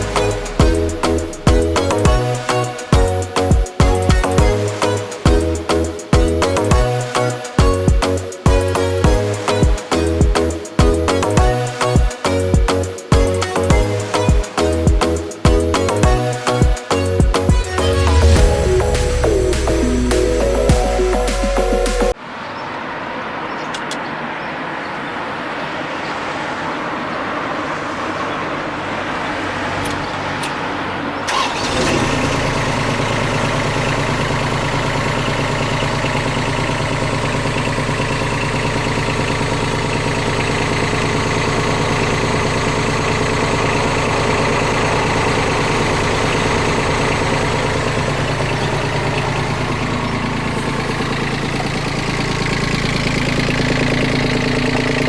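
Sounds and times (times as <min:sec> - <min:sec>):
excavator diesel engine running: 0:00.0 - 0:22.2, 0:27.4 - 0:55.0.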